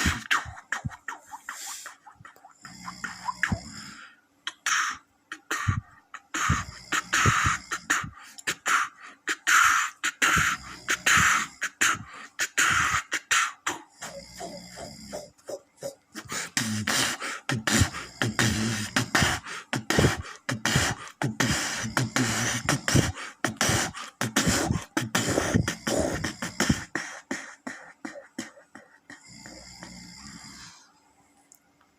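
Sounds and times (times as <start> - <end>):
vocal beatboxing: 0.0 - 30.8
man snoring: 0.0 - 30.9.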